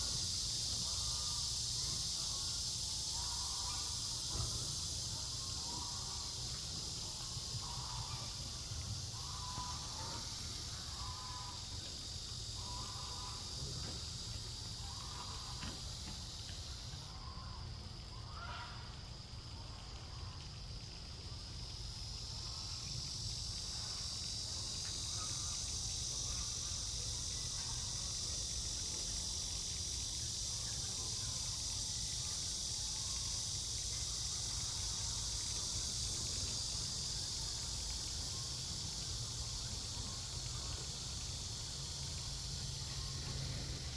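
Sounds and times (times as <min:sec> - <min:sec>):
high-pitched insect chorus: 0:00.0 - 0:43.9
short insect calls: 0:00.0 - 0:43.9.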